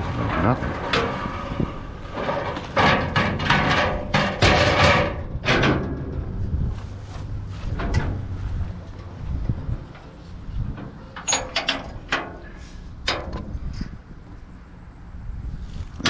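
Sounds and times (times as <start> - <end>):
scrap metal bangs and scrapes: 0.0 - 13.9.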